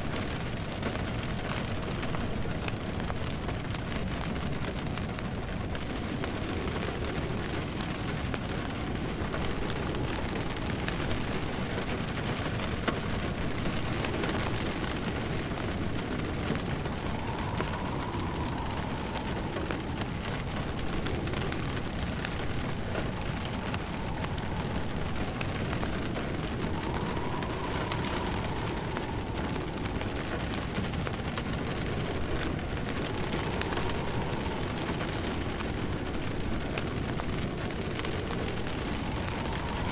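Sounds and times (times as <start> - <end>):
faint wind howl: 0.0 - 39.9
rain pattering: 0.0 - 39.9
wood fire crackling: 0.0 - 39.9.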